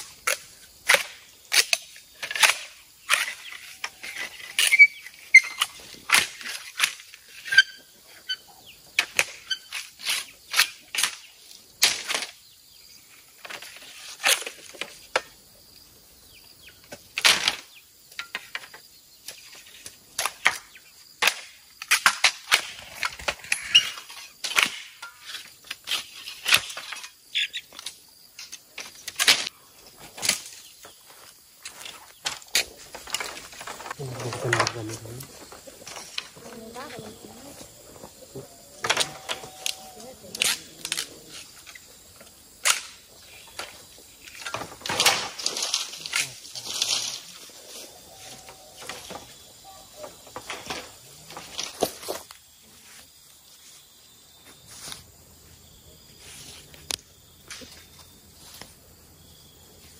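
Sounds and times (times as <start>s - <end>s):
bamboo poles clacking together: 0.0s - 12.4s, 13.2s - 15.4s, 16.8s - 52.5s, 56.6s - 58.8s.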